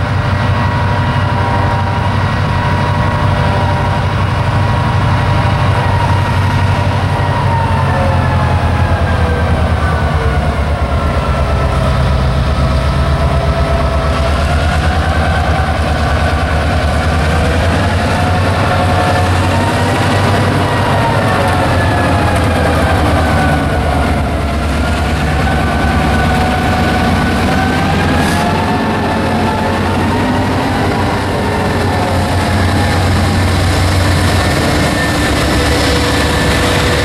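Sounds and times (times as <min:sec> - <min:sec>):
diesel locomotive engine rumble: 0:00.0 - 0:37.0
locomotive whine: 0:00.0 - 0:37.0.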